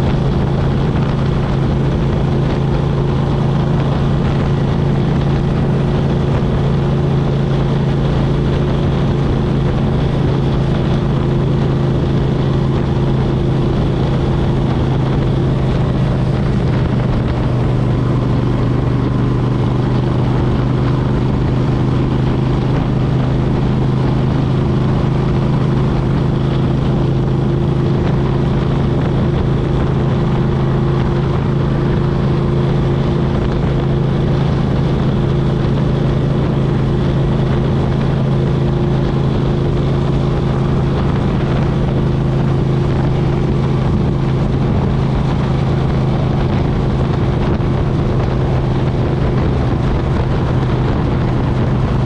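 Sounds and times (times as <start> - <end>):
motorcycle engine cruising: 0.0 - 52.0.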